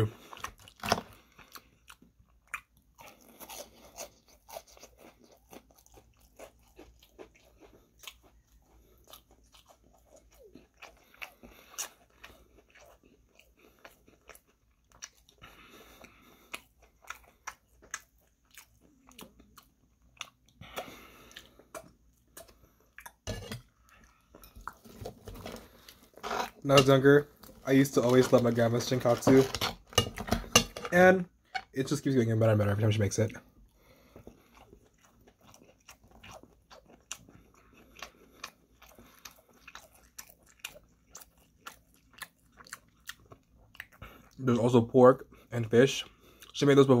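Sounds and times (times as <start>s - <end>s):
chewing crunchy fried food: 0.0s - 32.2s, 32.8s - 47.0s.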